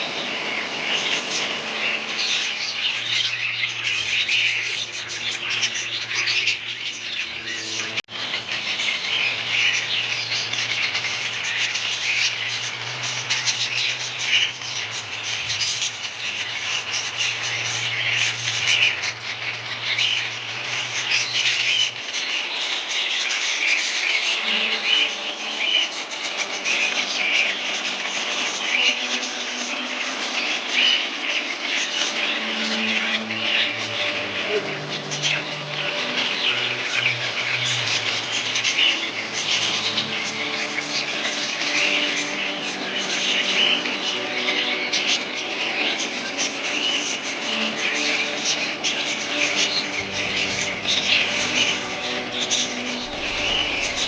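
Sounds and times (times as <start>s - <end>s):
budgies chirping: 0.0s - 54.0s.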